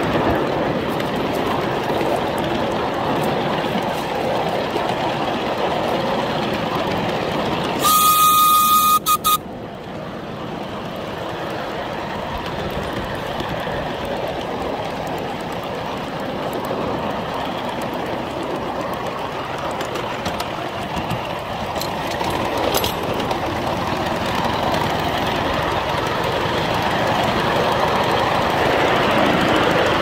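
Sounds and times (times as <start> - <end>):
train clattering on rails: 0.0 - 30.0.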